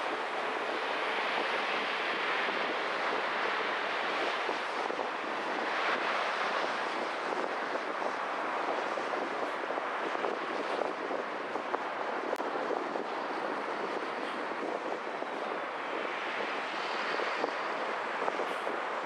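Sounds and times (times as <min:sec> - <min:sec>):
wind rush: 0:00.0 - 0:19.0.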